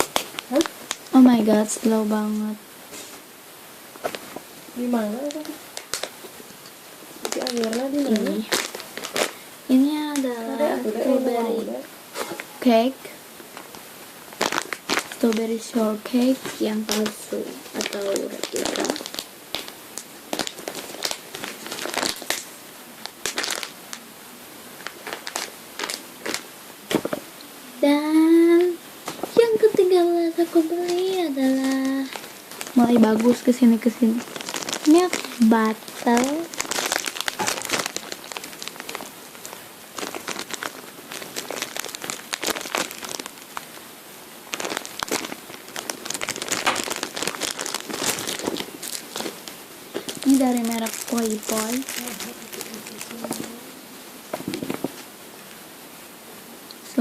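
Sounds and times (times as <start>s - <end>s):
plastic packaging crinkling: 0.0s - 3.3s, 3.9s - 11.2s, 12.2s - 24.0s, 24.8s - 27.2s, 28.5s - 55.1s.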